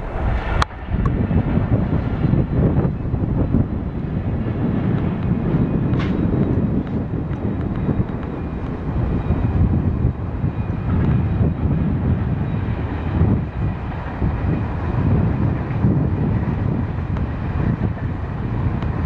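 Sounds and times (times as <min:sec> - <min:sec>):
train rumbling on track: 0:00.0 - 0:19.0
wind gusting on microphone: 0:00.0 - 0:19.0.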